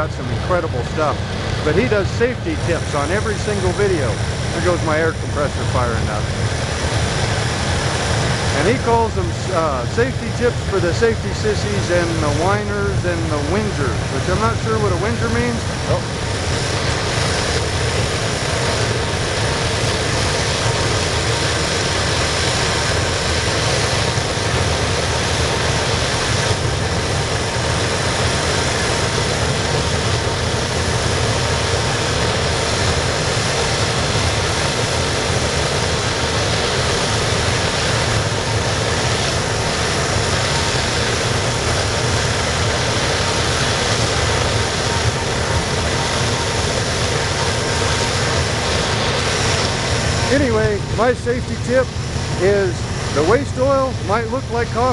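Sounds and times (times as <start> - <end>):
air compressor running: 0.0 - 54.9
burner roaring: 0.0 - 54.9.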